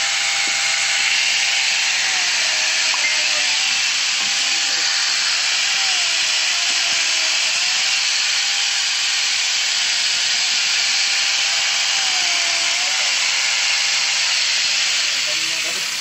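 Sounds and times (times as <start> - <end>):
mini chainsaw cutting wood: 0.0 - 16.0.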